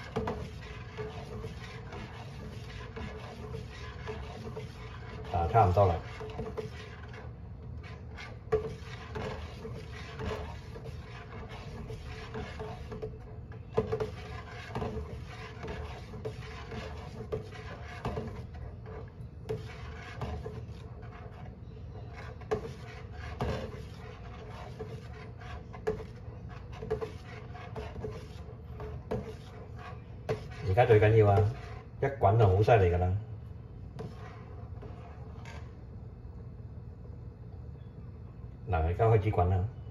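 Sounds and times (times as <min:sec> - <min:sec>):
metal spoon scraping a pot: 0:00.0 - 0:32.9, 0:33.9 - 0:35.8.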